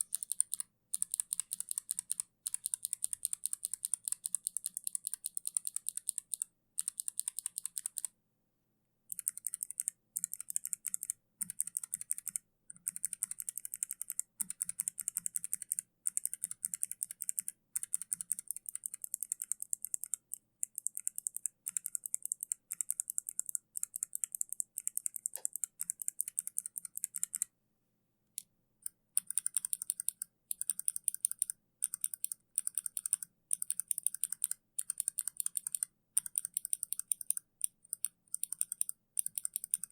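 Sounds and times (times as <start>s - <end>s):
mechanical keyboard typing: 0.0s - 8.1s, 9.1s - 27.5s, 28.8s - 39.9s.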